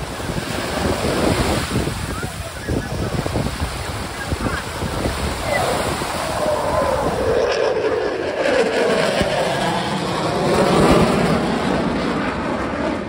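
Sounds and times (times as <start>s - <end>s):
jet roaring overhead: 0.0s - 13.0s.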